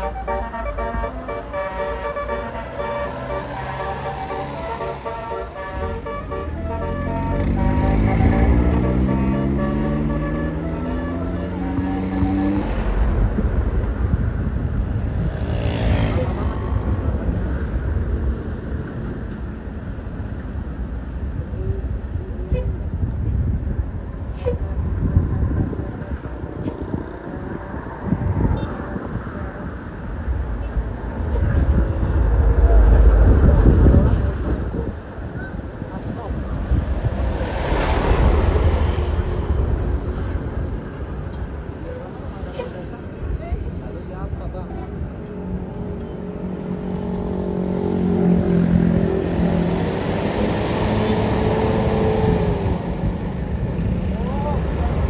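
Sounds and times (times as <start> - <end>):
traffic engines rumbling: 0.0 - 55.0.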